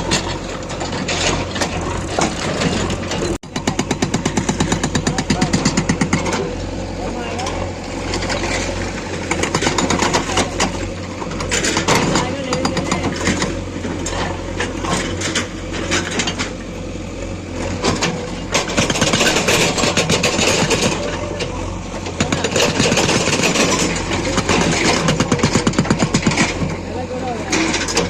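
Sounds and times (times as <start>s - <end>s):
machinery knocks and clatter: 0.0s - 16.6s, 17.6s - 28.0s
heavy machinery diesel engines: 0.0s - 28.0s.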